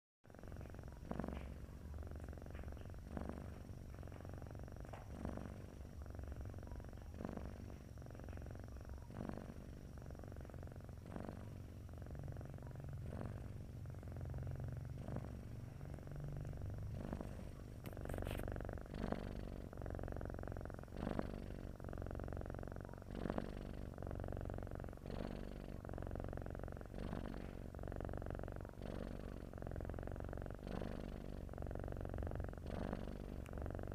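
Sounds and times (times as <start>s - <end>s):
cat purring: 0.3s - 33.9s.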